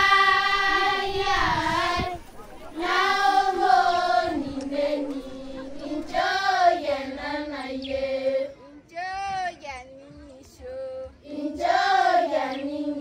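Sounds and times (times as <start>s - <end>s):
children singing: 0.0s - 8.6s, 10.6s - 13.0s.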